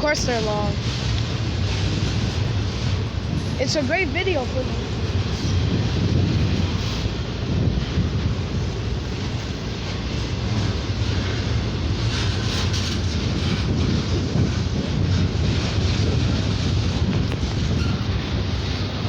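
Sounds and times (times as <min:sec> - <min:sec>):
freight train cars rolling: 0:00.0 - 0:19.0.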